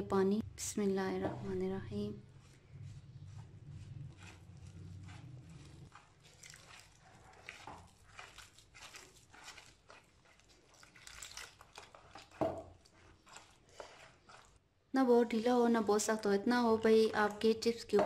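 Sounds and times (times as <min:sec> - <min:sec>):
hand squelching batter in bowl: 0:01.5 - 0:18.0.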